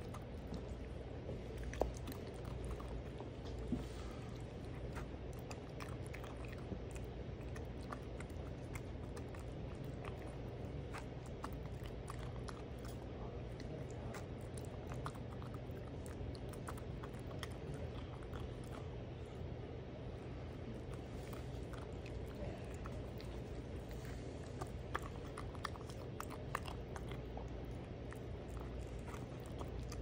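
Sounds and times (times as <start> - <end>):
kitten chewing and lapping food: 0.0 - 30.0
steady low hum: 0.0 - 30.0.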